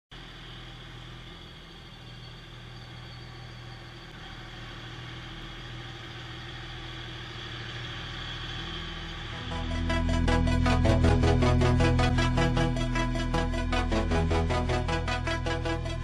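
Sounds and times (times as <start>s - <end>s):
diesel truck idling: 0.2s - 16.0s.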